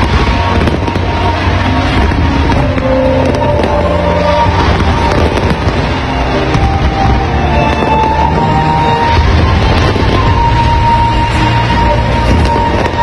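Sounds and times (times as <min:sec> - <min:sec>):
fireworks cracks: 0:00.0 - 0:13.0
fireworks shells bursting: 0:00.0 - 0:13.0
music with held notes: 0:00.0 - 0:13.0.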